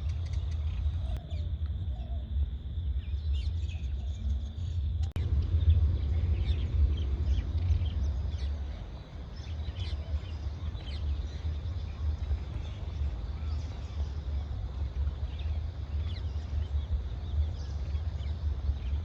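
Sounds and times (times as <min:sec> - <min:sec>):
uneven low rumble: 0:00.0 - 0:19.0.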